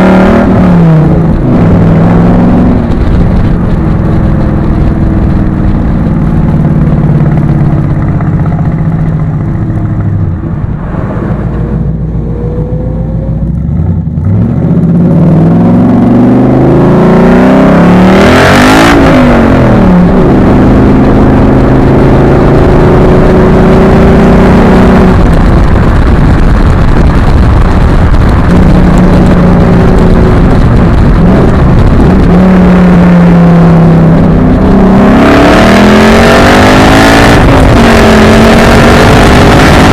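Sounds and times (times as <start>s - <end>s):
car engine accelerating: 0.0s - 39.9s
wind noise: 0.0s - 39.9s.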